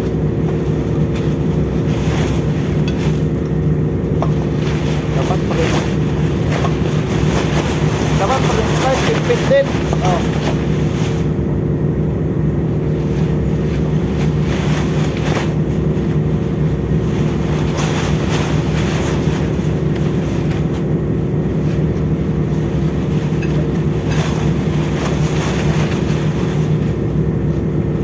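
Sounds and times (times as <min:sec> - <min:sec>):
ship engines droning: 0:00.0 - 0:28.0.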